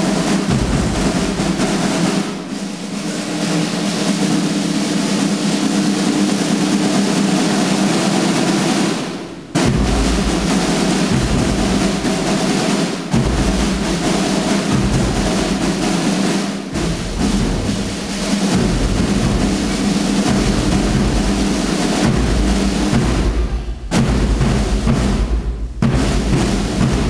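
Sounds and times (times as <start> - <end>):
snare drums beating and rolling: 0.0 - 27.0.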